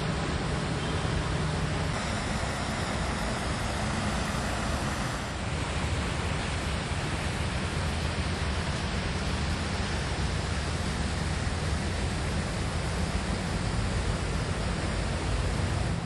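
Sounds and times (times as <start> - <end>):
steady outdoor rushing noise: 0.0 - 16.0.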